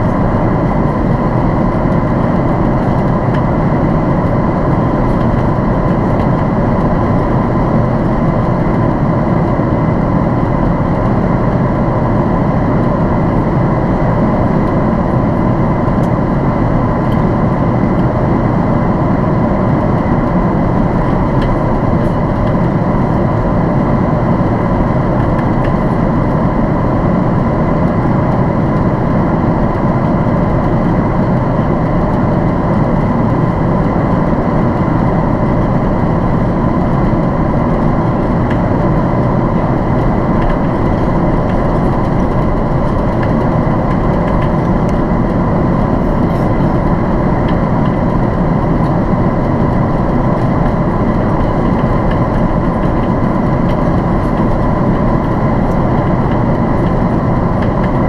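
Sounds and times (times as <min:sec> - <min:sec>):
airliner cabin engine rush: 0:00.0 - 0:58.0
steady engine whine: 0:00.0 - 0:58.0.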